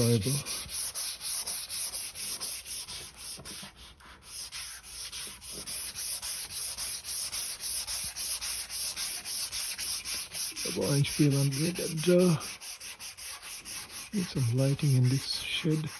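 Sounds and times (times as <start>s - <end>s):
sandpaper sanding strokes: 0.0s - 15.9s.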